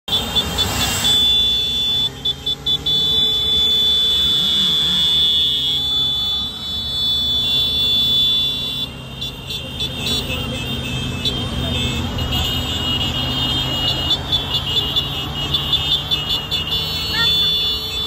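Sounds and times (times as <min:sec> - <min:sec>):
road noise: 0:00.0 - 0:18.0
vehicle horns honking: 0:00.0 - 0:18.0
motorcycle engines humming: 0:00.1 - 0:18.0.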